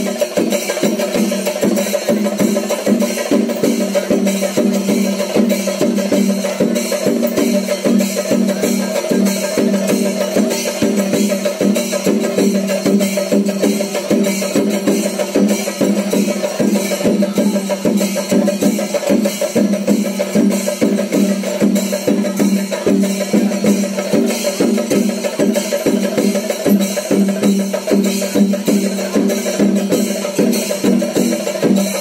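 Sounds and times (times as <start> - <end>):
fast drumming: 0.0 - 32.0.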